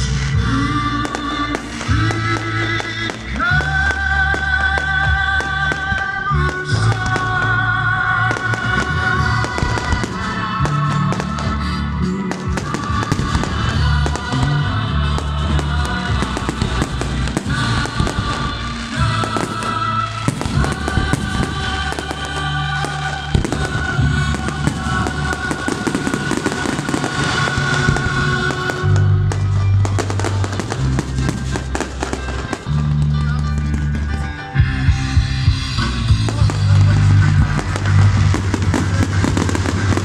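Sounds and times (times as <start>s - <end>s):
fireworks bursting and crackling: 0.0s - 40.0s
music playing: 0.0s - 40.0s.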